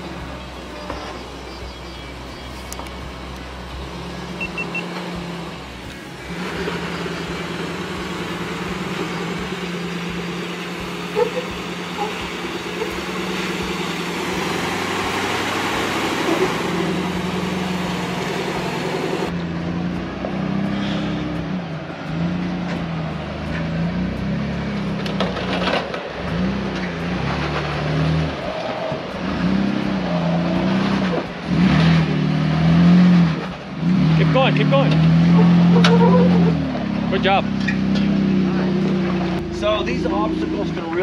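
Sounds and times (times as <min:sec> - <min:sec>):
off-road engine revving: 0:00.0 - 0:41.0.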